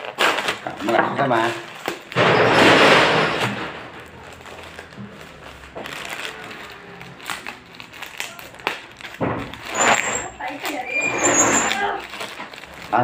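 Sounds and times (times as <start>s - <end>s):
plastic mailer bag crinkling: 0.0s - 2.2s, 4.0s - 13.0s.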